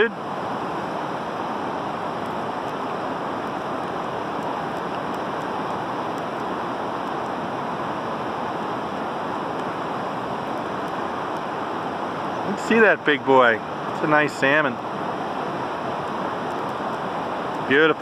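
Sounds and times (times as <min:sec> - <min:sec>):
river current rushing: 0:00.0 - 0:18.0.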